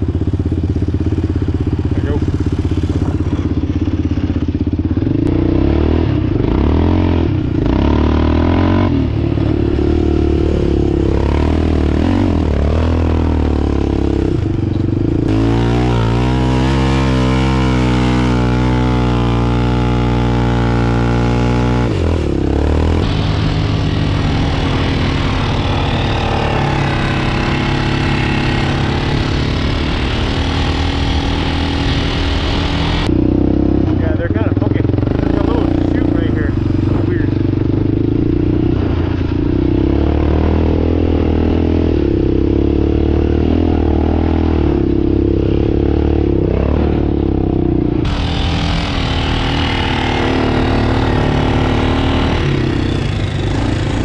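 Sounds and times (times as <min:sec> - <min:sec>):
off-road vehicle engine revving: 0:00.0 - 0:54.0
steady rushing noise: 0:00.0 - 0:54.0.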